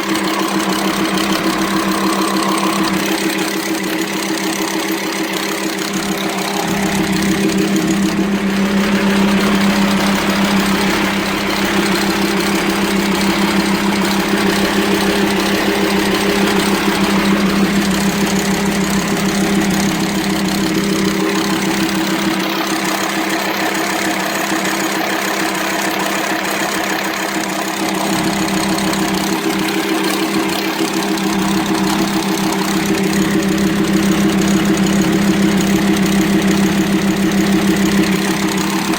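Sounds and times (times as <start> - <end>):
diesel engine idling with clatter: 0.0 - 38.9.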